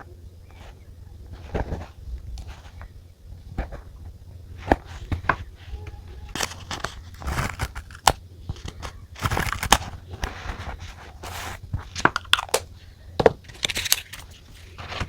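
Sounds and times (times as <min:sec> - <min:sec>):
paper rustling and crinkling: 0:00.5 - 0:12.6, 0:13.4 - 0:15.0.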